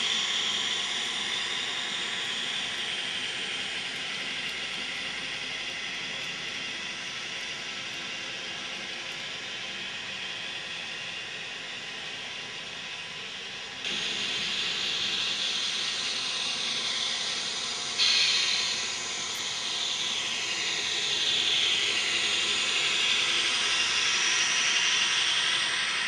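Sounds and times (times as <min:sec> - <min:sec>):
faint falling whines: 0:00.0 - 0:26.0
model train wheels on rail: 0:00.0 - 0:26.0.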